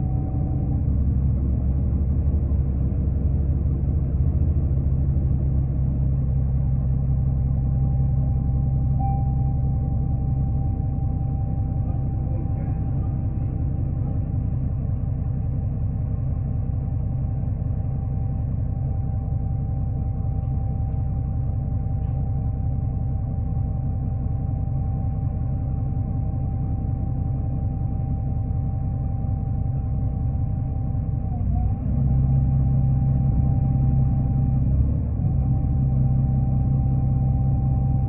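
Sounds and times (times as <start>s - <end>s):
bus engine rumble: 0.0s - 38.0s
thin steady whine: 0.0s - 38.0s.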